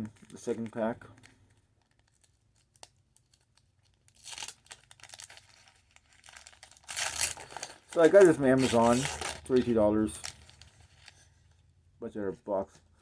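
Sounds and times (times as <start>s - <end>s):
wrapper tearing and crinkling: 0.0s - 11.3s.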